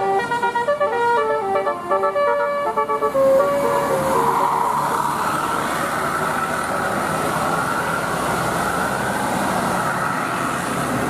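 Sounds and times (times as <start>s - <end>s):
bus driving past: 0.0s - 11.0s.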